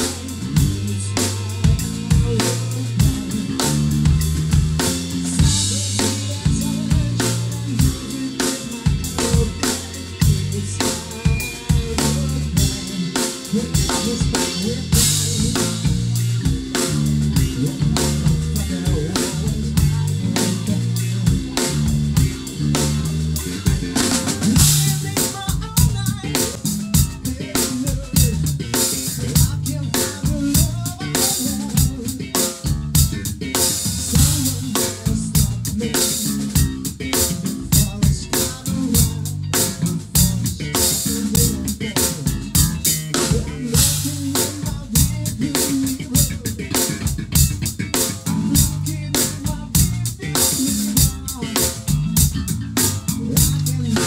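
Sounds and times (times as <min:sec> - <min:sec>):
drum kit rock groove: 0:00.0 - 0:54.0
low pitched bass notes: 0:00.0 - 0:54.0.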